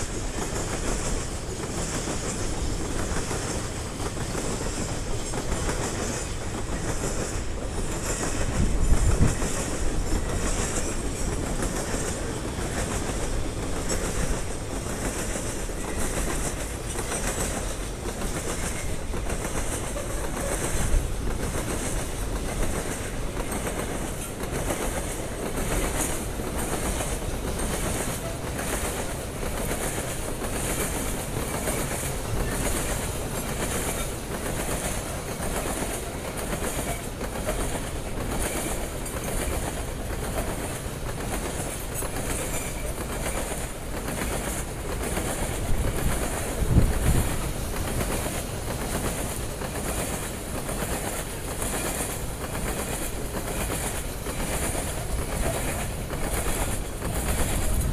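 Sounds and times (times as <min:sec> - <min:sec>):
train rumble: 0:00.0 - 0:57.9
train wheels clicking over rail joints: 0:00.0 - 0:57.9.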